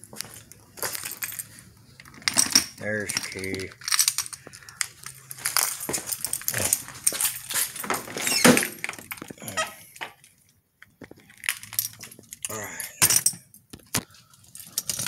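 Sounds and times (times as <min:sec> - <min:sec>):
keys jingling: 0:00.4 - 0:10.3, 0:11.3 - 0:13.6, 0:14.3 - 0:15.0.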